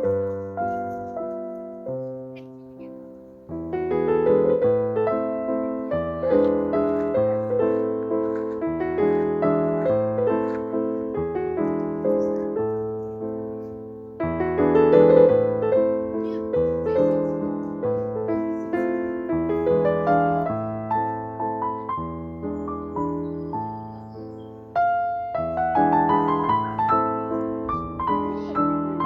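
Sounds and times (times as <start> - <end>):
soft piano music: 0.0 - 29.0.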